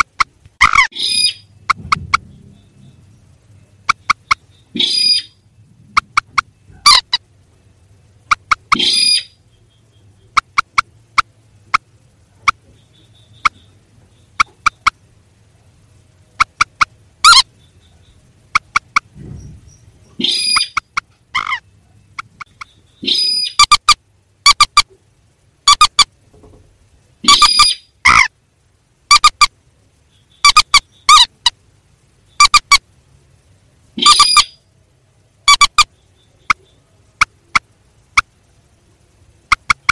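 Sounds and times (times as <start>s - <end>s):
rail bird calls: 0.0s - 26.3s, 26.9s - 28.4s, 29.0s - 33.0s, 33.8s - 39.9s.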